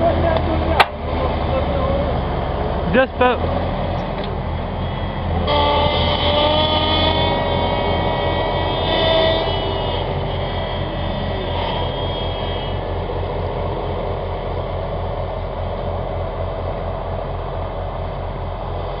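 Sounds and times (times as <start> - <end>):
engine whine: 0.0 - 19.0
tractor diesel engine under load: 0.0 - 19.0.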